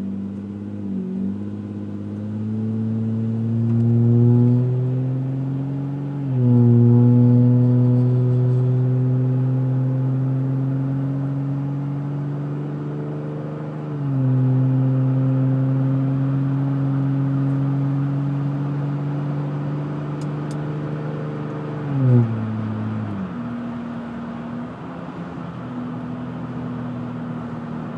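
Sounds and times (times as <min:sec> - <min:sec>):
car exhaust drone: 0:00.0 - 0:27.9.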